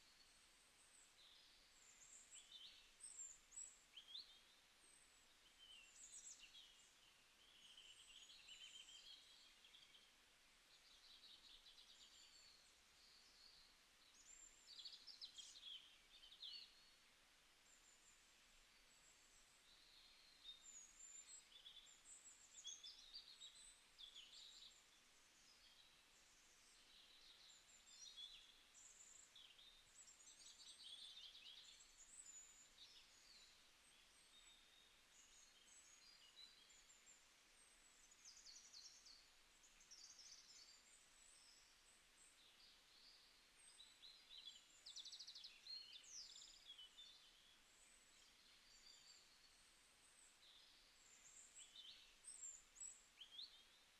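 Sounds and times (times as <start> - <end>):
small birds chirping: 0.0 - 53.9
soft steady hiss: 0.0 - 53.9.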